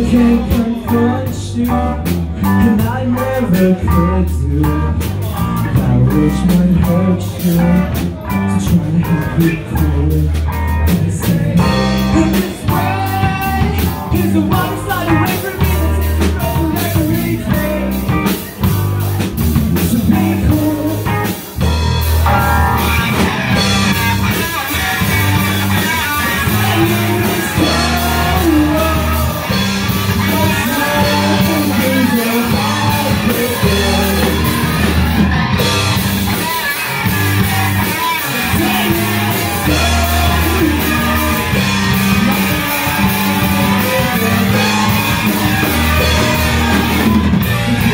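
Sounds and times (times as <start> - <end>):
bass guitar: 0.0 - 47.9
drum kit: 0.0 - 47.9
electric guitar: 0.0 - 47.9
person singing lead vocals: 0.0 - 47.9.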